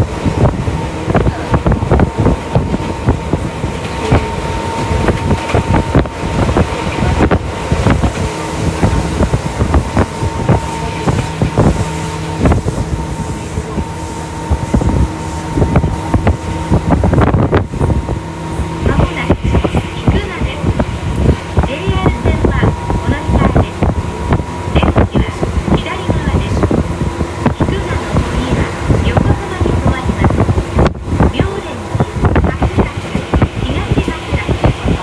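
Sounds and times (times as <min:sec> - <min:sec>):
traction motor hum and whine: 0:00.0 - 0:35.0
train rumble: 0:00.0 - 0:35.0.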